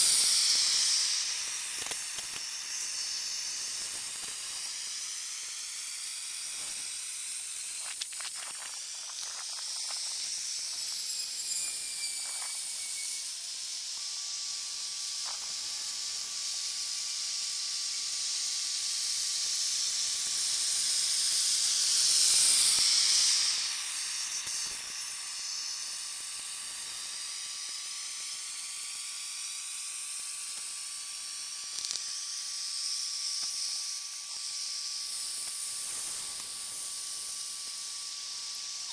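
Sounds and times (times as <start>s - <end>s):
propane burner hissing: 0.0s - 32.2s, 33.1s - 38.9s.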